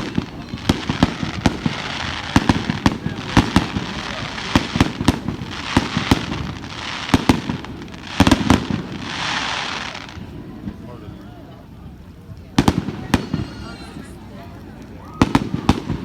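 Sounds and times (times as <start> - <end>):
fireworks bangs and pops: 0.0 - 11.0, 12.3 - 16.0
fireworks crackling: 0.0 - 16.0.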